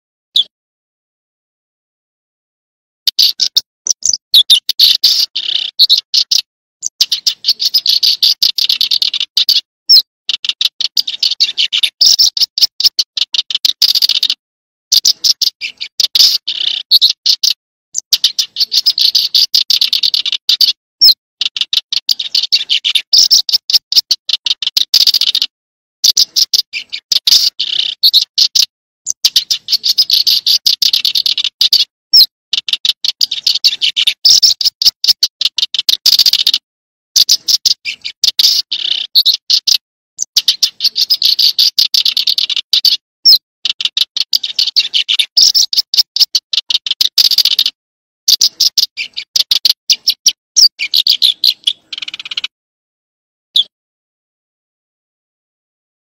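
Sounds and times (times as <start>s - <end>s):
songbird buzzy trill: 3.1s - 36.6s, 37.2s - 52.5s.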